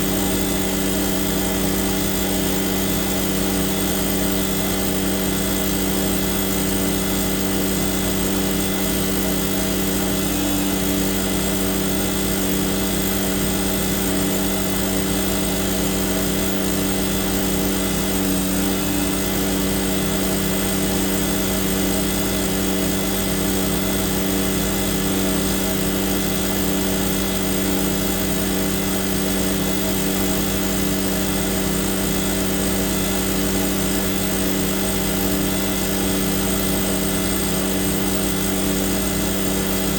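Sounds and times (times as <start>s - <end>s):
vacuum pump and engine running: 0.0s - 39.9s.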